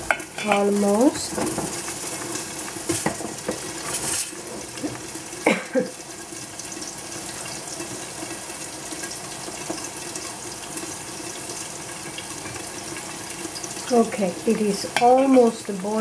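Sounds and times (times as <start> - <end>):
gas burners hissing: 0.0 - 16.0.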